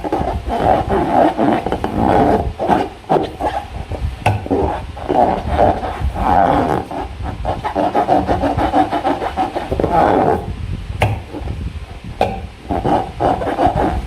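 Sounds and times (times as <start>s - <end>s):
rubbery creaking and squeaking: 0.0s - 14.0s.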